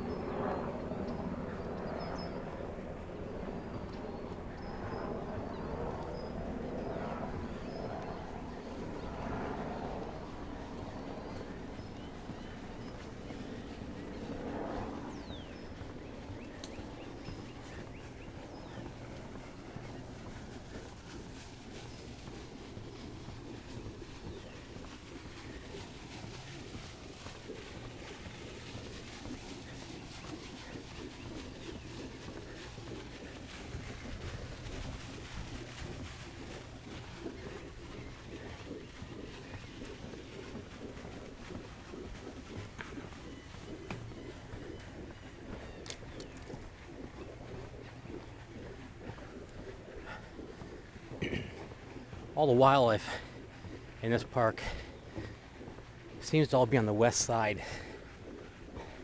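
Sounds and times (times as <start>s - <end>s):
birds calling: 0.0s - 59.0s
low steady background hum: 0.0s - 59.0s
low cooing calls: 3.8s - 52.4s, 57.6s - 59.0s.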